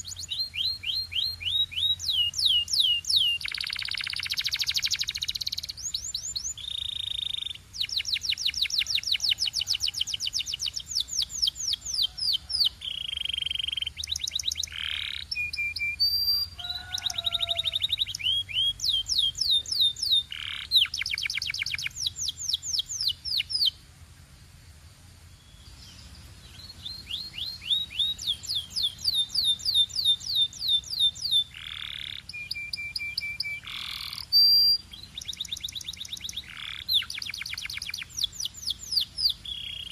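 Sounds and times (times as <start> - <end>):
canary singing: 0.0 - 23.8, 25.4 - 39.9.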